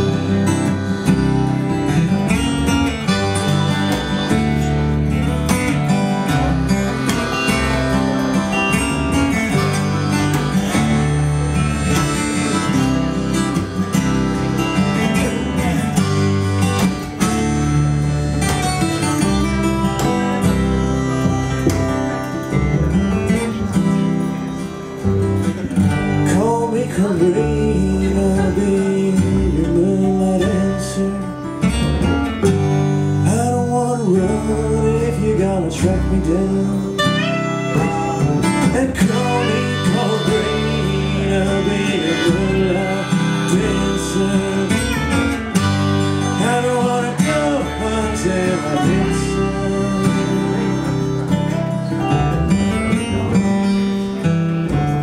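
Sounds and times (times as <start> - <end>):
double bass line: 0.0 - 55.0
harmonica bending notes: 0.0 - 55.0
strummed acoustic guitar: 0.0 - 55.0.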